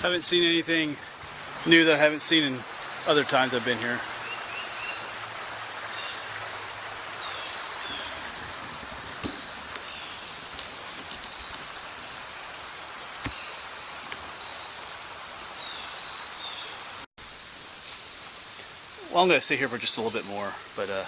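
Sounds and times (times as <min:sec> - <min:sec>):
insects trilling: 0:00.0 - 0:21.0
steady hiss: 0:00.0 - 0:21.0.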